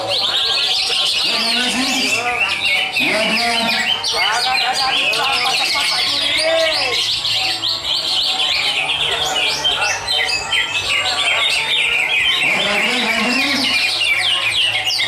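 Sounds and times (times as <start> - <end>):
songbirds chirping and trilling: 0.0 - 15.0
voices: 0.0 - 15.0.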